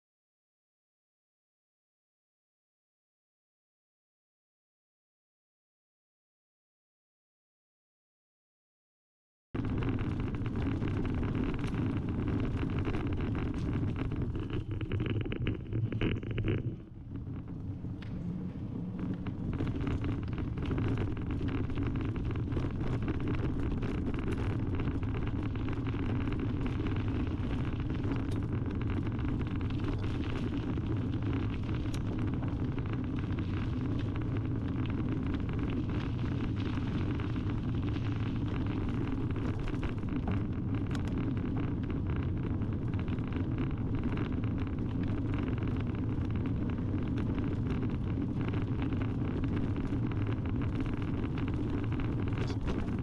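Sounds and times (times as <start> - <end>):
bicycle tyres rolling on gravel: 9.6 - 53.0
stones crackling under tyres: 9.6 - 53.0.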